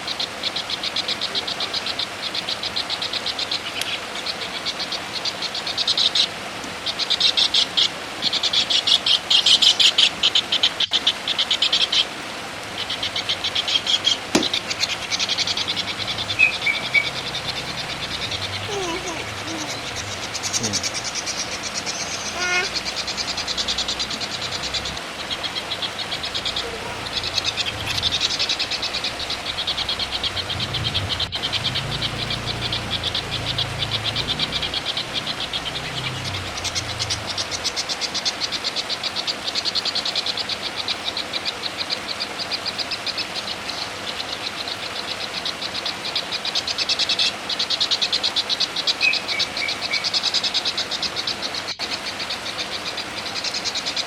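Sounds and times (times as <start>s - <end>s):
fast rattling trill of calls: 0.0s - 54.0s.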